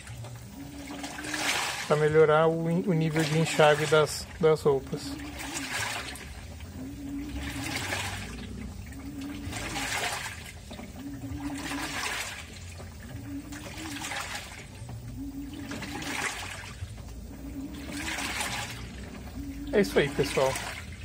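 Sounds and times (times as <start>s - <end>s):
washing machine water sloshing: 0.0s - 21.0s.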